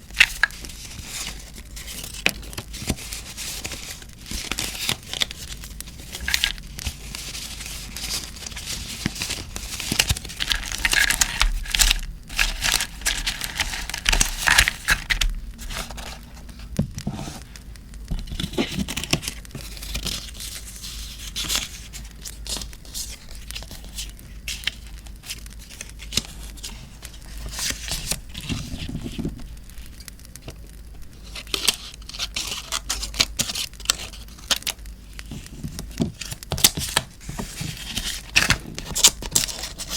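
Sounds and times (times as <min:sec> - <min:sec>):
paper crinkling and tearing: 0:00.0 - 0:39.9.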